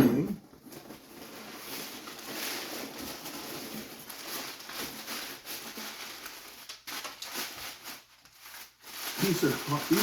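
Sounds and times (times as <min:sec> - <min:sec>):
packaging rustling: 0:00.4 - 0:10.0.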